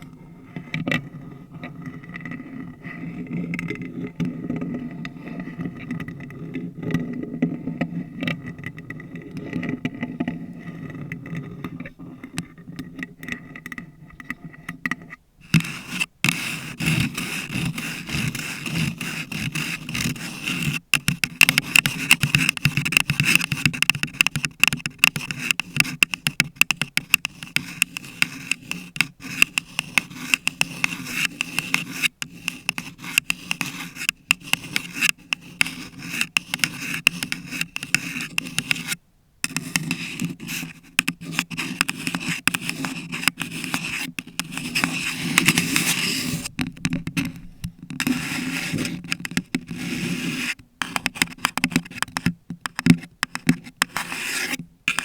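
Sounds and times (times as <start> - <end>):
fingernails scratching and tapping: 0.6 - 55.0.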